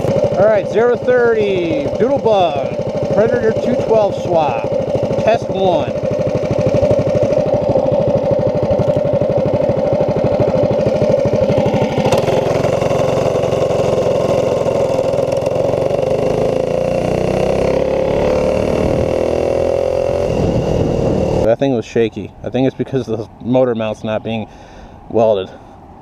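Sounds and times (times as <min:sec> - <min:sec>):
mini bike engine revving: 0:00.0 - 0:21.5.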